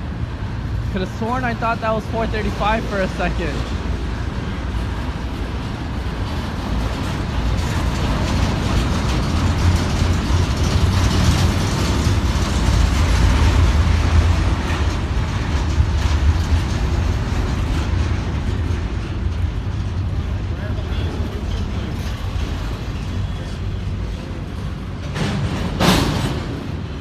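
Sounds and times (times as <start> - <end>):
freight cars rumbling on rails: 0.0 - 27.0
rattling and clanking: 3.6 - 27.0.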